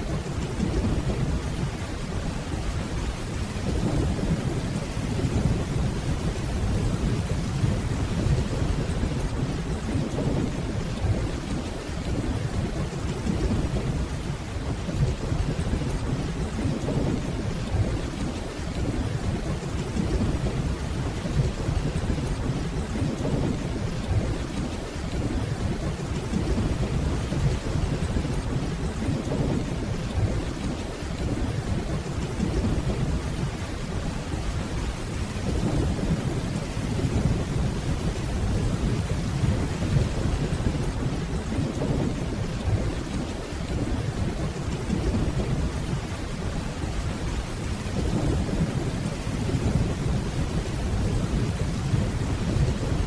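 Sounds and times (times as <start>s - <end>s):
distant rolling thunder: 0.0s - 53.0s
steady rainfall: 0.0s - 53.0s.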